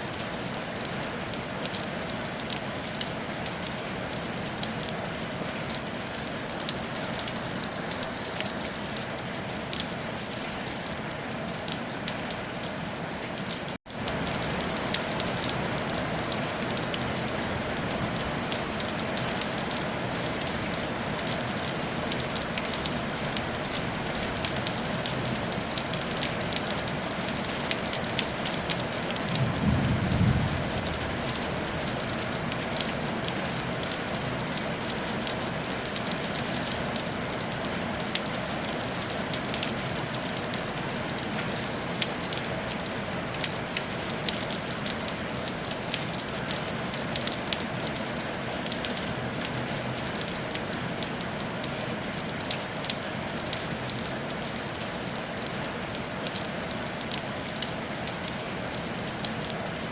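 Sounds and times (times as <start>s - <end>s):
rain on a tile roof: 0.0s - 59.9s.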